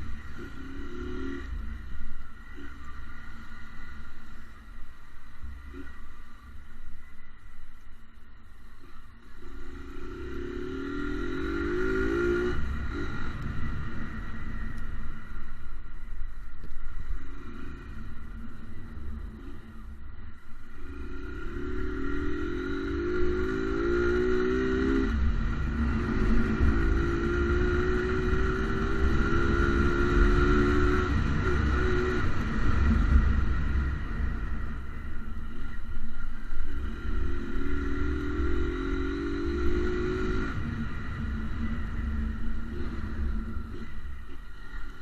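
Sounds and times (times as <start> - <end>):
motorcycle engine accelerating: 0.0 - 4.7, 9.2 - 45.0
low rumble: 6.4 - 45.0.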